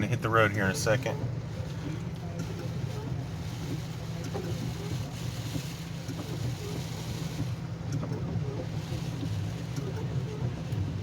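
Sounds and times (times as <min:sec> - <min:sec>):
vehicle engine rumble: 0:00.0 - 0:11.0
light rain hiss: 0:00.9 - 0:11.0.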